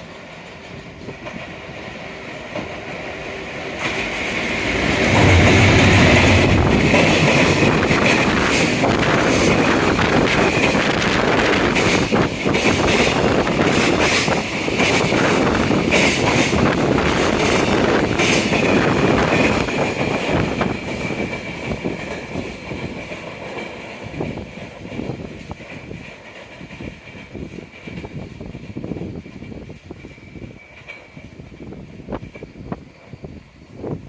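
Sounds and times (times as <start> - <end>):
high train whine: 0.0 - 34.0
train wheels clacking: 0.0 - 34.0.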